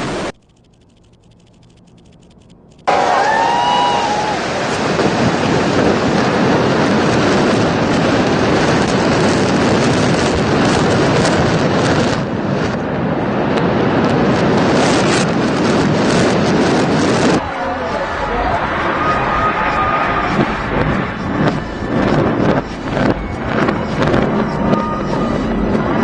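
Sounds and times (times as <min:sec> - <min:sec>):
rumble of collapsing concrete: 0:02.9 - 0:26.0.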